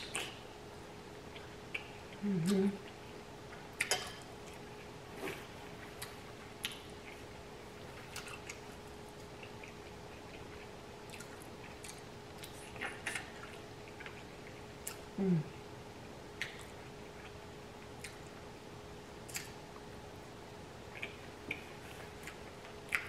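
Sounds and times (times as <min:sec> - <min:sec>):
soft wet chewing: 0:00.0 - 0:00.5, 0:01.2 - 0:15.7, 0:16.3 - 0:18.5, 0:19.2 - 0:19.9, 0:20.8 - 0:23.0
faint steady hum: 0:00.0 - 0:23.0.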